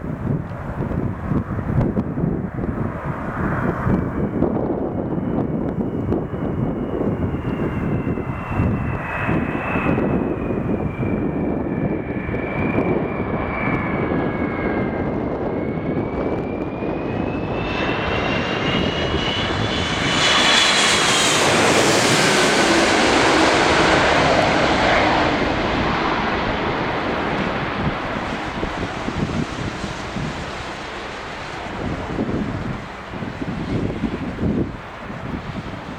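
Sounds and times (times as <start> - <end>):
airliner engine whine: 0.0 - 35.9
jet engine rush: 0.0 - 35.9
wind rumbling on microphone: 0.0 - 35.9.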